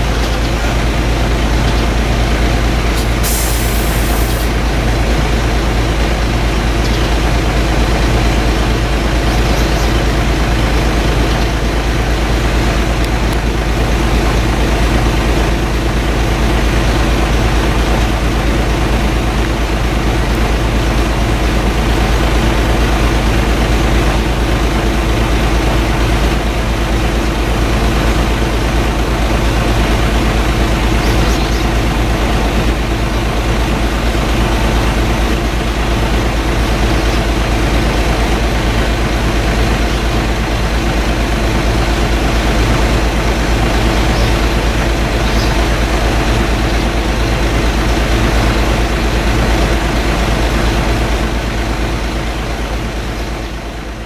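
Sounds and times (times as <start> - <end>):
loud mechanical drone: 0.0 - 54.0.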